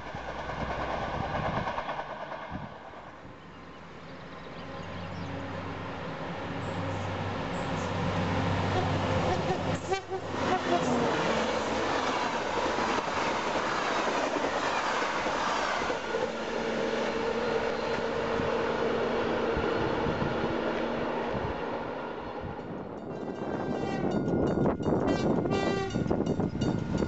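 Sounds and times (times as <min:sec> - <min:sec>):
train wheels on rails: 0:00.0 - 0:03.4, 0:04.8 - 0:27.0.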